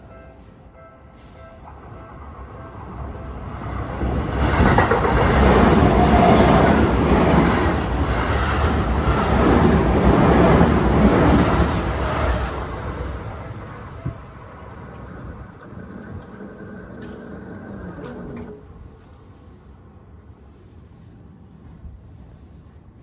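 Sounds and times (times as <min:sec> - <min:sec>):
electric train rumble: 0:00.0 - 0:21.8.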